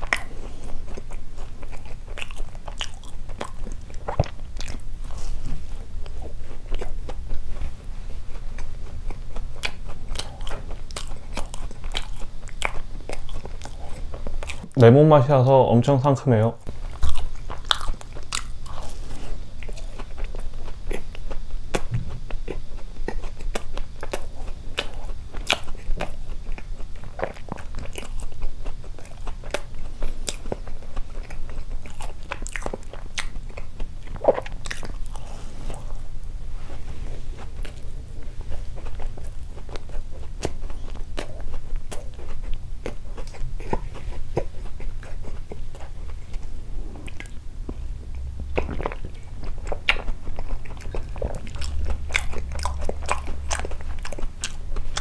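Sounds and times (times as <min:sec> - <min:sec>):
biting and chewing doughnut: 0:00.0 - 0:15.1, 0:16.6 - 0:55.0.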